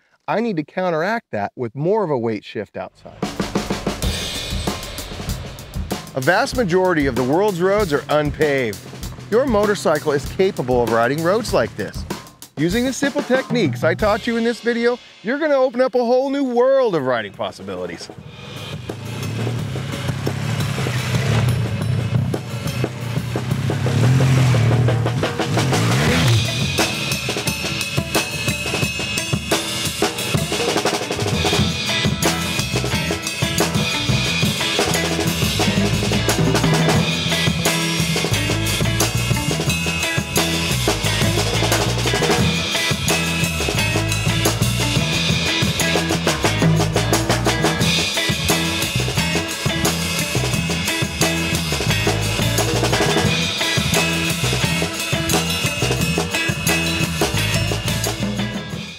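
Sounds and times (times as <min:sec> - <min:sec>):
backing music with bass line: 0:02.9 - 0:15.6, 0:17.0 - 0:58.9
drum kit playing: 0:03.0 - 0:58.9.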